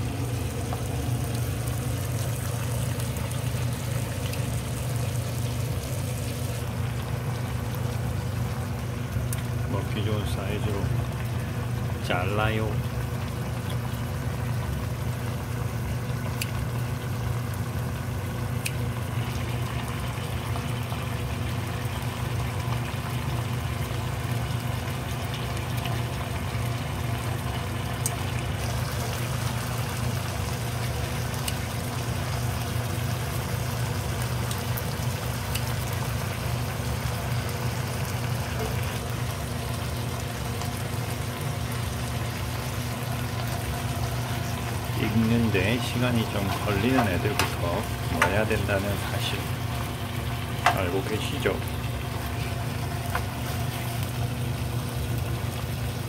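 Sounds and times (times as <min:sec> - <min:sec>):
chicken sizzling in a wok: 0:00.0 - 0:56.0.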